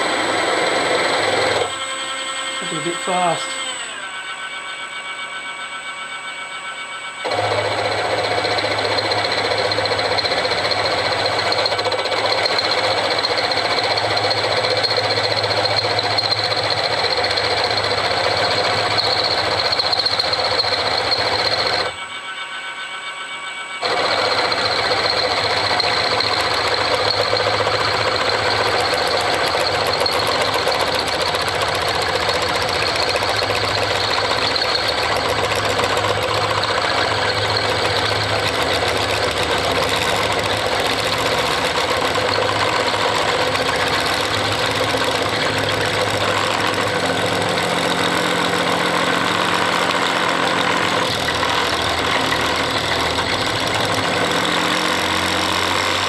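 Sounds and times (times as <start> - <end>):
milling machine drilling steel: 0.0 - 23.0, 23.8 - 56.0.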